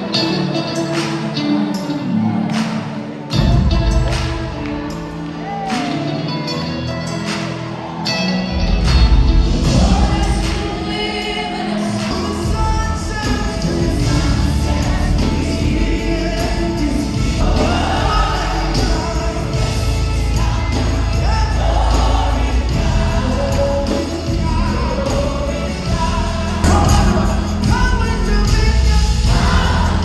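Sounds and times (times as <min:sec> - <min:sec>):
gospel choir with band: 0:00.0 - 0:30.0.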